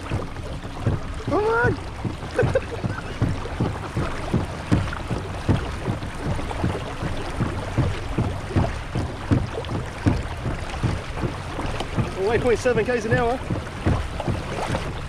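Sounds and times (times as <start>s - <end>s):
pedal drive knocking: 0.0s - 15.0s
water washing along hull: 0.0s - 15.0s.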